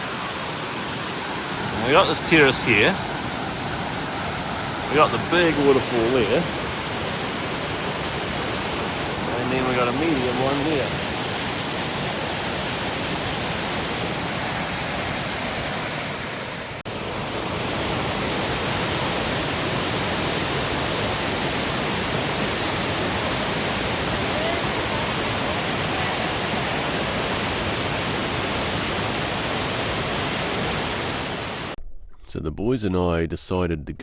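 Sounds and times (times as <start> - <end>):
waterfall rushing: 0.0 - 31.8.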